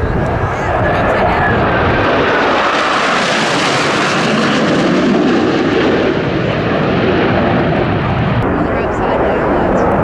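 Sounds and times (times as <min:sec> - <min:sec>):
jet engines flying past: 0:00.0 - 0:10.0.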